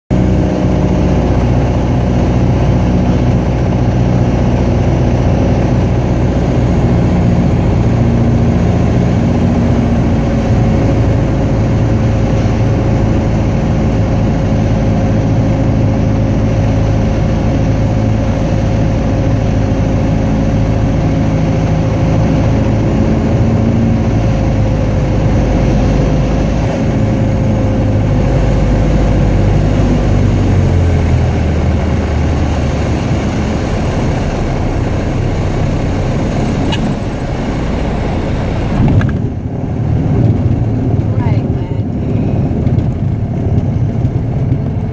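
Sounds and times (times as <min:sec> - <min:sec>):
aircraft engine droning: 0:00.1 - 0:44.9.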